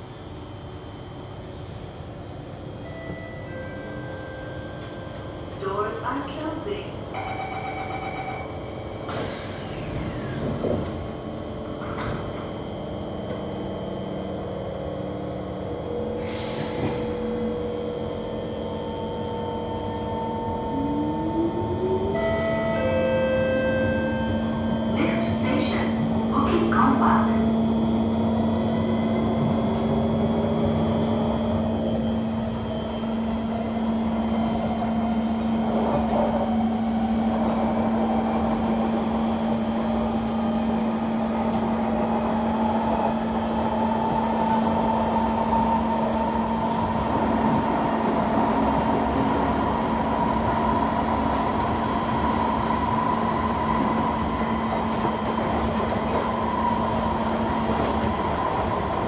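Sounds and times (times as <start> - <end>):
steady train hum: 0.0 - 59.0
train wheels rumbling on rails: 9.1 - 22.2, 23.8 - 59.0.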